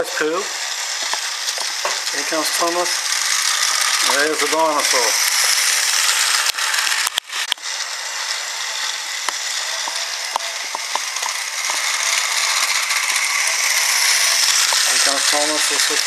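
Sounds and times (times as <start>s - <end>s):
toy train motor whirring: 0.0s - 16.0s
wheels clicking on track: 0.0s - 16.0s.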